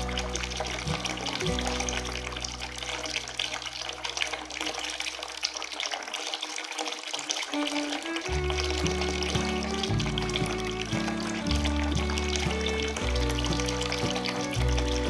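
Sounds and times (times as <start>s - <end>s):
splashing water with crackly hiss: 0.0s - 15.0s.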